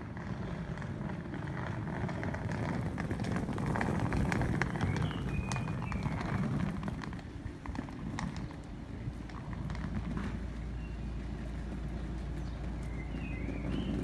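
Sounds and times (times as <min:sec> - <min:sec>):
low steady rumble: 0:00.0 - 0:14.0
suitcase wheels rattling on pavement: 0:00.0 - 0:14.0.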